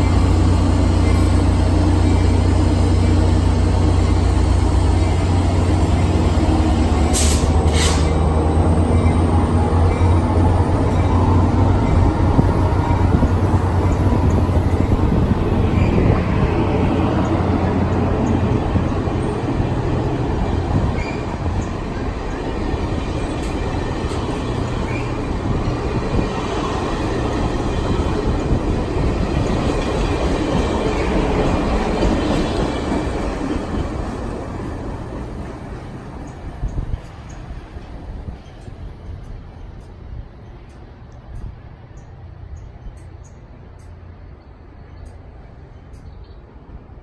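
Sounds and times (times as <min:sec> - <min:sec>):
train low hum: 0:00.0 - 0:47.0
train wheels rumbling on rail: 0:00.0 - 0:47.0.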